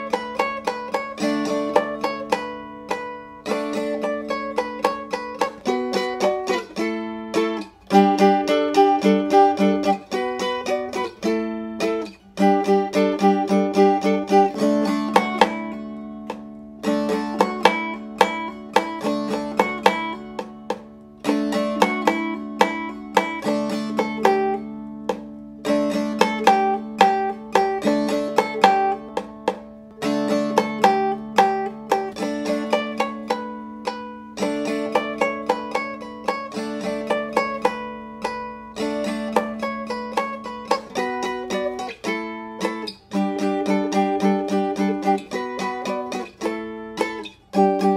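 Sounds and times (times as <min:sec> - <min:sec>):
plucked string music: 0:00.0 - 0:47.9.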